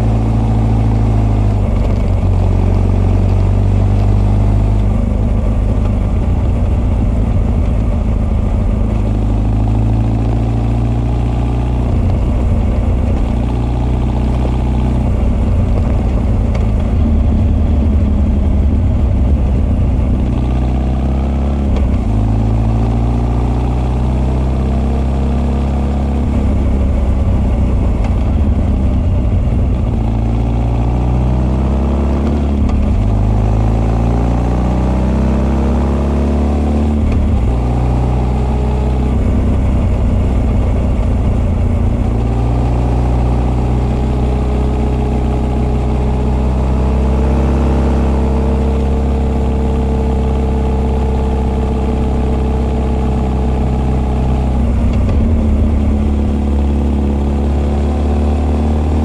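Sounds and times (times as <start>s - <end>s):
motorcycle engine under way: 0.0s - 59.0s.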